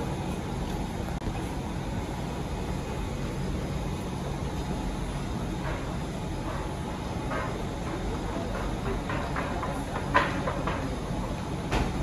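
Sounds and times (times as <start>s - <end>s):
station ambient noise: 0.0s - 12.0s
train equipment humming: 0.0s - 12.0s.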